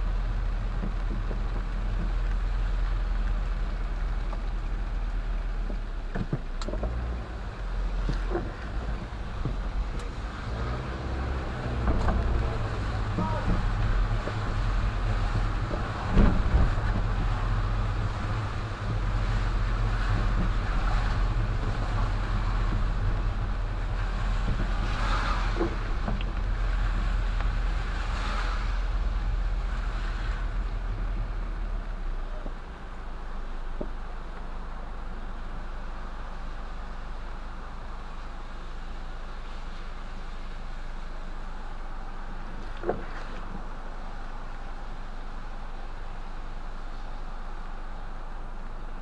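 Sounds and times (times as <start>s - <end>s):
car road and engine rumble: 0.0s - 49.0s
tyre hiss on wet road: 0.0s - 49.0s.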